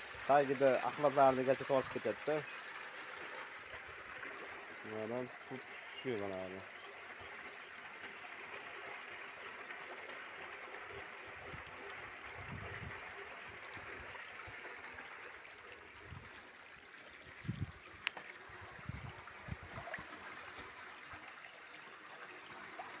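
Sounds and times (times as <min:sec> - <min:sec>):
water pouring from hose: 0:00.0 - 0:06.6, 0:07.4 - 0:23.0.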